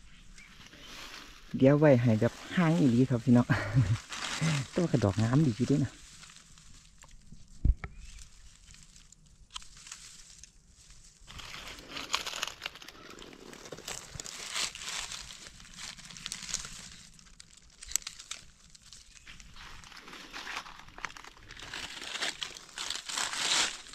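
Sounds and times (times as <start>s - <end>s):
dry leaves crunching under hands: 0.3s - 23.9s.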